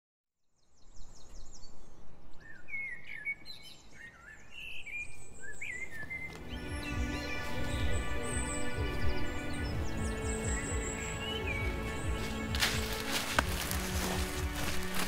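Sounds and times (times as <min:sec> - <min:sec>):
birds chirping and whistling: 0:00.6 - 0:15.0.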